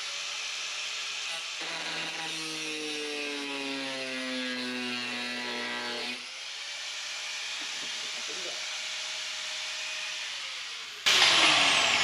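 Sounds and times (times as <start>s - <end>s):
power tool cutting bolt: 0.0s - 12.0s.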